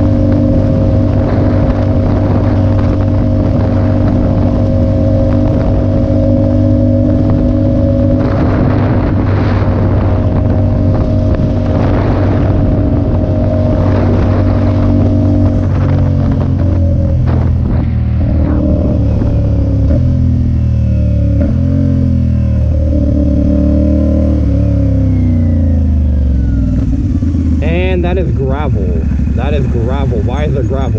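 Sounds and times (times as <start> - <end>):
motorcycle engine running: 0.0 - 30.9
rushing wind noise: 0.0 - 30.9.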